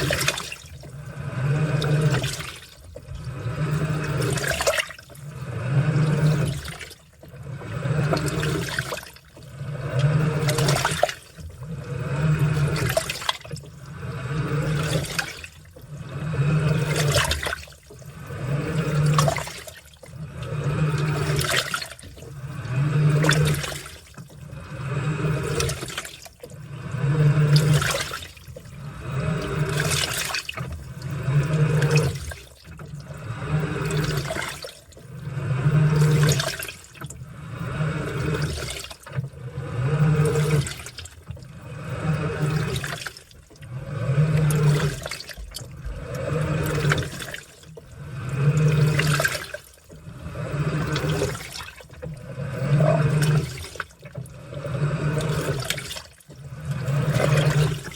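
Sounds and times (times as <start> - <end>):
washing machine motor humming: 0.0 - 57.9
water sloshing in washing machine: 0.0 - 57.9.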